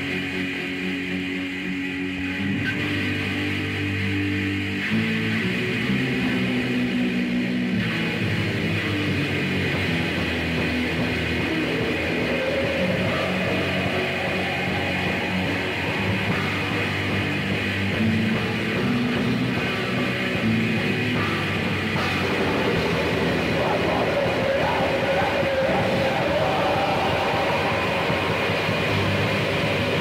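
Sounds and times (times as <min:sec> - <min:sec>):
lo-fi black metal music: 0:00.0 - 0:30.0.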